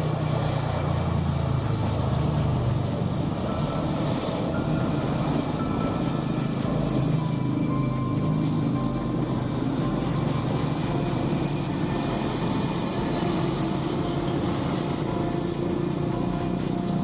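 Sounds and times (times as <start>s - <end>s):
low vehicle engine drone: 0.0s - 17.0s.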